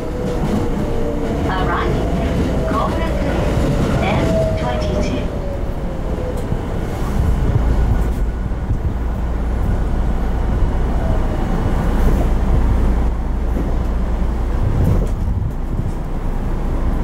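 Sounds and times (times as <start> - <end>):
subway car rumbling: 0.0 - 17.0.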